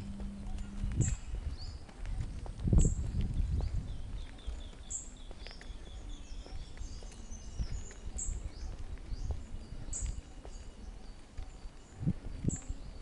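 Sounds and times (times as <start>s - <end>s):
birds chirping and calling: 0.0s - 13.0s
steady low rumble: 0.0s - 13.0s.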